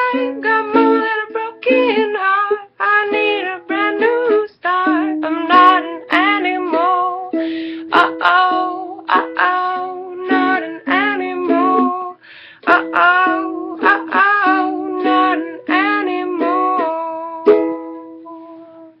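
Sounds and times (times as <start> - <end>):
acoustic string instrument strumming: 0.0 - 18.6.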